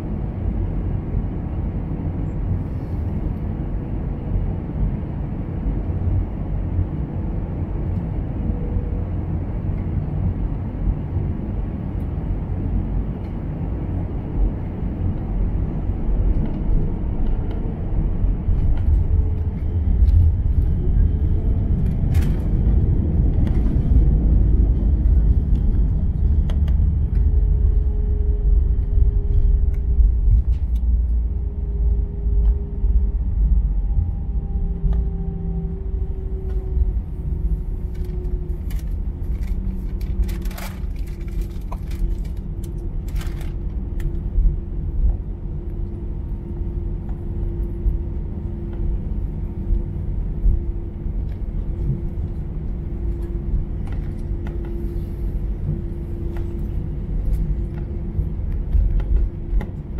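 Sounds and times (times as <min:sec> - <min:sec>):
aircraft engines and airflow rumble: 0:00.0 - 0:59.9.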